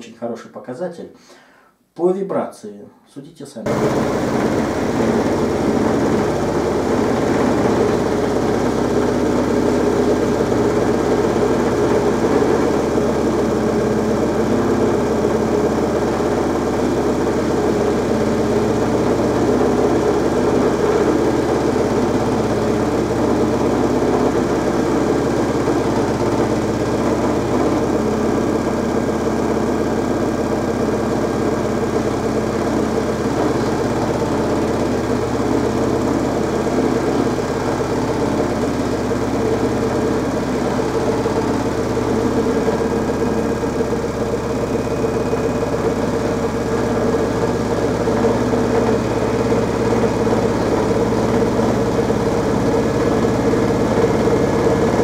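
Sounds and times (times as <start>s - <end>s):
washing machine drum spinning: 3.7s - 55.0s.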